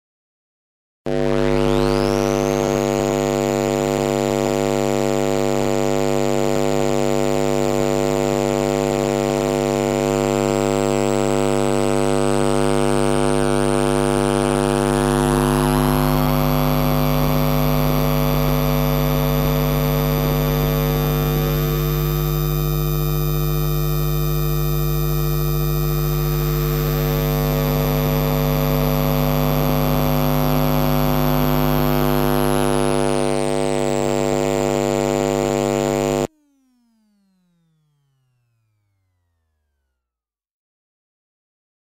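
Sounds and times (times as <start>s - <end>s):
vacuum cleaner running: 1.1s - 36.3s.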